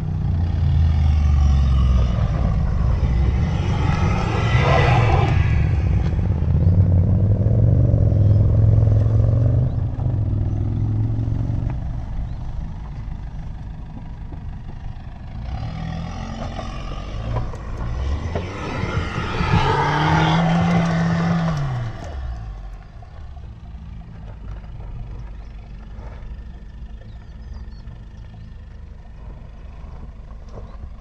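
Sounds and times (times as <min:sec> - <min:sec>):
car engine working hard: 0:00.0 - 0:31.0.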